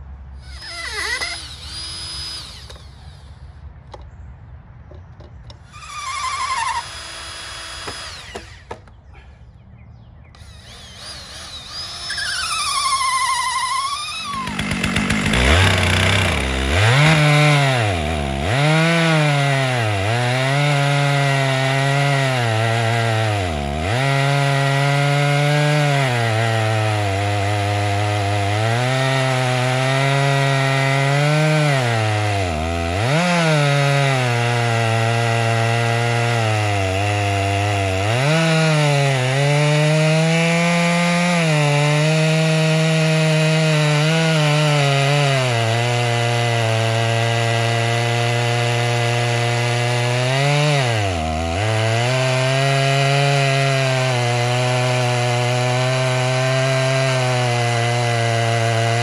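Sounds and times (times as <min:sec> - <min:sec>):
chainsaw cutting log: 0:00.0 - 0:04.1, 0:04.9 - 0:09.0, 0:10.4 - 0:59.0.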